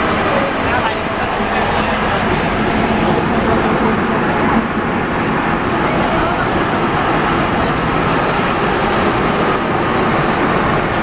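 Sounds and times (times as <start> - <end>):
metro train rolling rumble: 0.0 - 11.0.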